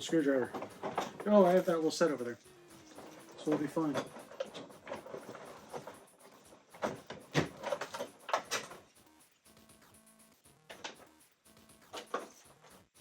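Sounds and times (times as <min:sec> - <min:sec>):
plastic parts clicking and knocking: 0:00.0 - 0:09.2, 0:10.6 - 0:12.8
faint background music: 0:00.0 - 0:13.0.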